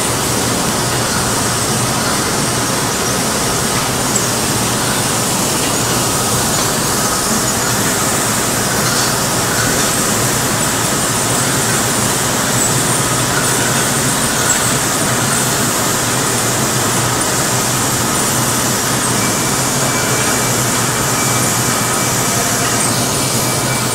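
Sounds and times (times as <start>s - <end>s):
bottling machine noise: 0.0s - 23.9s.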